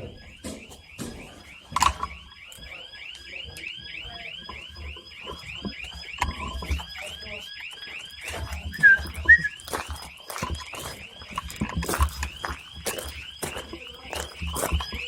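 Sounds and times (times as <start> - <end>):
electronic alarm chirping: 0.0 - 15.0.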